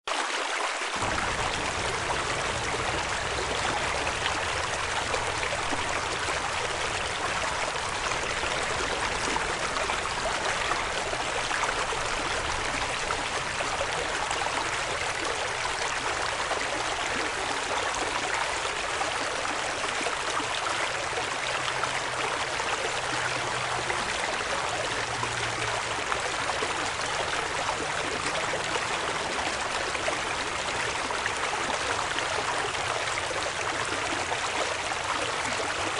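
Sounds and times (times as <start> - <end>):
creek running over rocks: 0.1 - 35.9.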